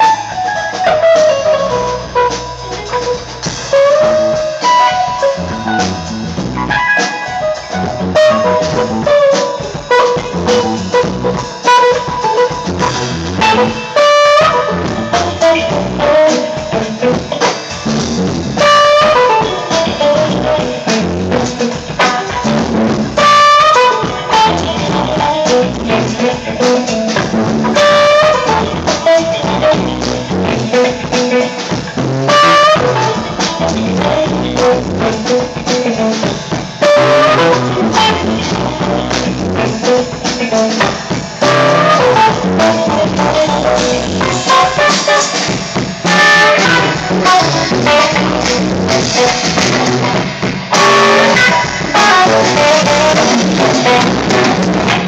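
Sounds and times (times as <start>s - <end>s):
drum kit playing: 0.0s - 55.0s
electric guitar: 0.0s - 55.0s.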